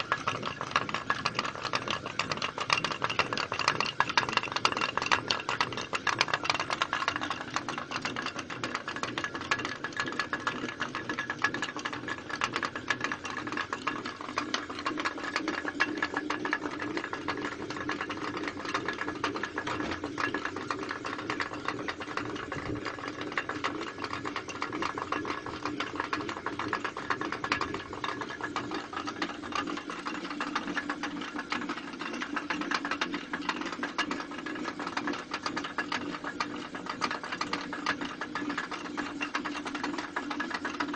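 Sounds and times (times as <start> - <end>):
water mill millstone clattering: 0.0 - 40.9.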